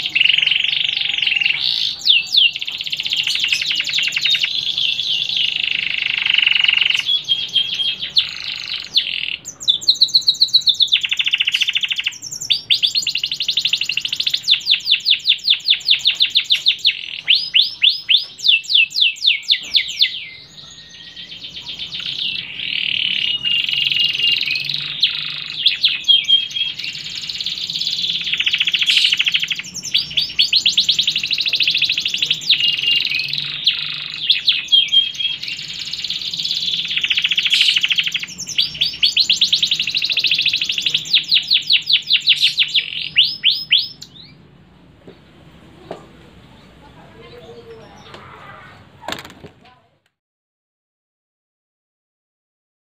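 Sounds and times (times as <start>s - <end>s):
canary singing trills: 0.0s - 44.5s.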